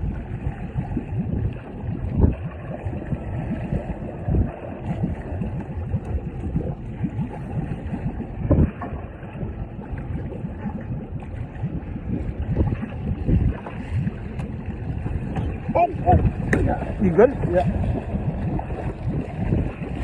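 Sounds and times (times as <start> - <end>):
boat engine rumbling: 0.0 - 20.0
wind on microphone: 0.0 - 20.0.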